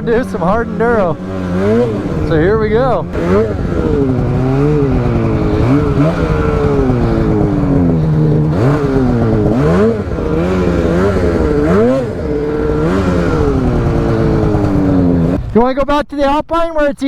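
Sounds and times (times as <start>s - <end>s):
snowmobile engine revving: 0.0s - 15.9s.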